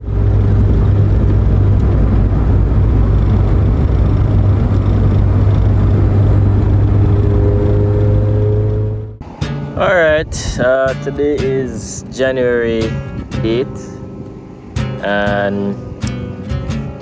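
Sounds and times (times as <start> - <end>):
car engine drone: 0.0 - 17.0
road and wind noise: 0.0 - 17.0.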